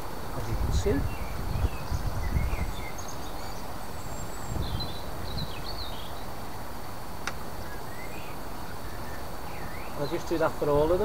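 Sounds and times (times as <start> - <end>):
birds chirping: 0.0 - 11.0
outdoor background noise: 0.0 - 11.0.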